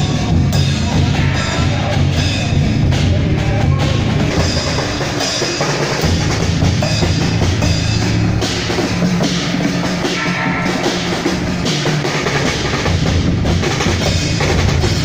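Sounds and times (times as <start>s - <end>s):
bass drum: 0.0s - 15.0s
kit drums and cymbals: 0.0s - 15.0s.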